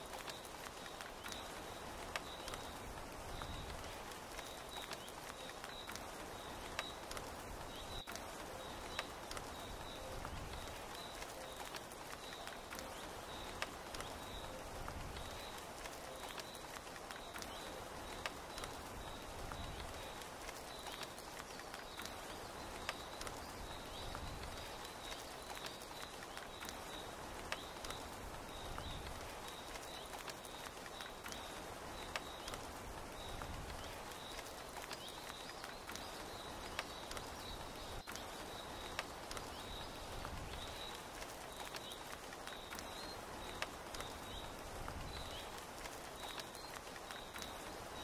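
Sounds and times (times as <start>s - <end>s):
rain pattering on a tent: 0.0s - 48.0s
water drip ticks: 0.0s - 48.0s.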